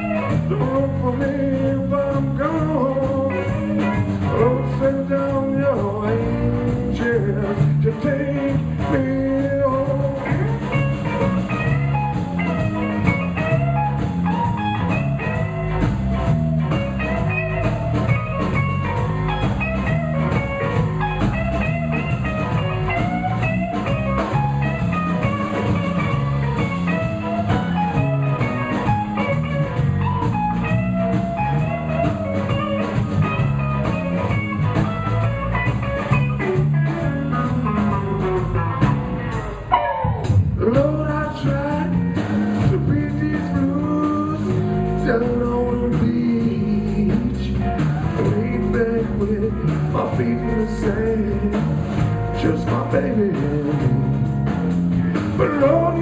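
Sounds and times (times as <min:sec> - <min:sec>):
live blues band playing: 0:00.0 - 0:56.0.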